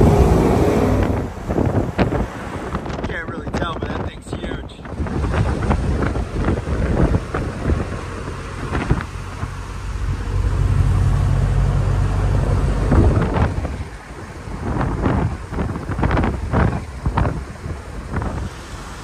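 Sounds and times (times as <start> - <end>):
car road noise: 0.0 - 19.0
wind rumbling on microphone: 0.0 - 19.0.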